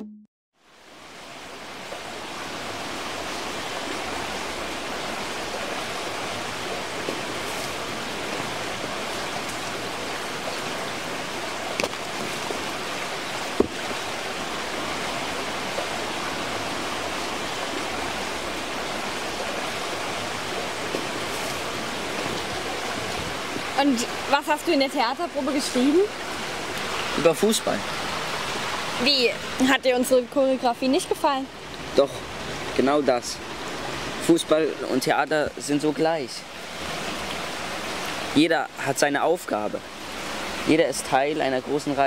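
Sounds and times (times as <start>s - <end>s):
stream running over rocks: 0.6s - 42.0s.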